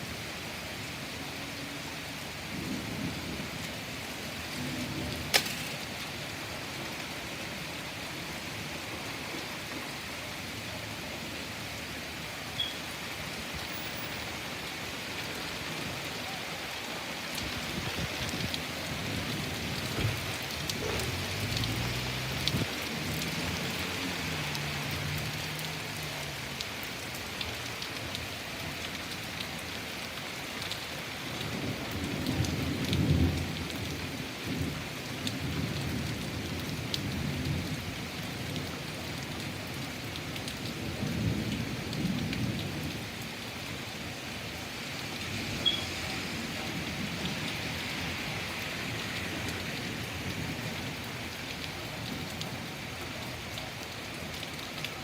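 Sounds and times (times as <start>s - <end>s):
rain on hard surfaces: 0.0s - 55.0s.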